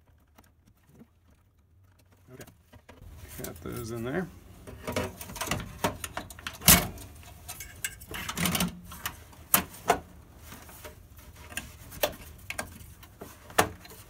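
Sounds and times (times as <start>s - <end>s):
cables being handled: 0.0s - 14.0s.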